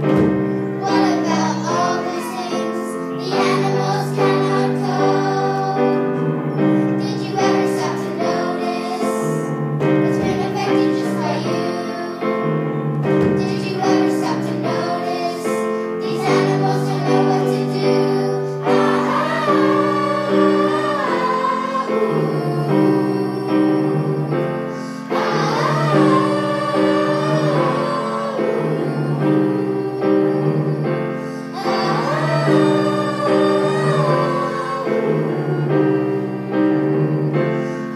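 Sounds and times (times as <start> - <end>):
children singing: 0.0 - 37.9
instrumental music: 0.0 - 37.9.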